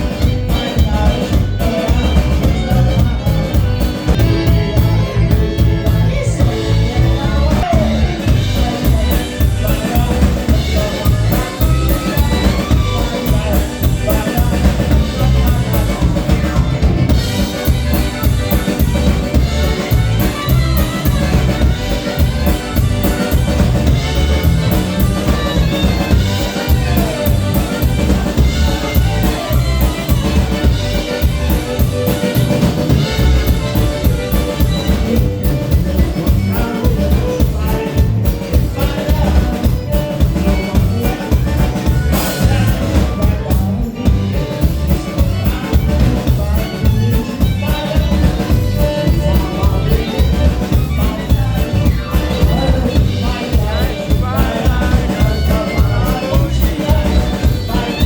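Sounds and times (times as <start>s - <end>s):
drum kit beat: 0.0s - 58.0s
polka band playing: 0.0s - 58.0s.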